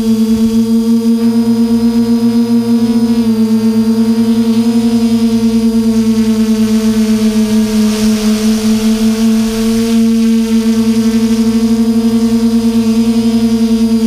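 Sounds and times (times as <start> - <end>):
drone motors humming: 0.0 - 14.0.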